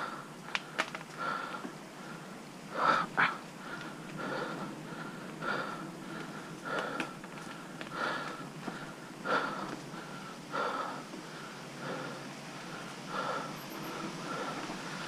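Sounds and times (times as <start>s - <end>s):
bike rolling on dirt trail: 0.0s - 15.0s
person breathing heavily: 0.0s - 15.0s.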